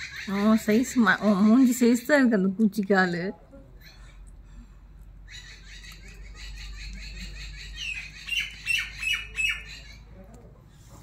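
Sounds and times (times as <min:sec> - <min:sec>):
small birds chirping: 0:00.0 - 0:02.8, 0:03.7 - 0:10.5.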